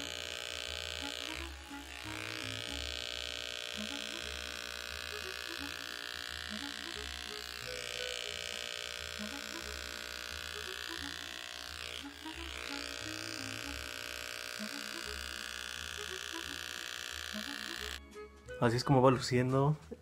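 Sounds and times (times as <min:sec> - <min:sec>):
electric hair clipper buzzing: 0:00.0 - 0:18.0.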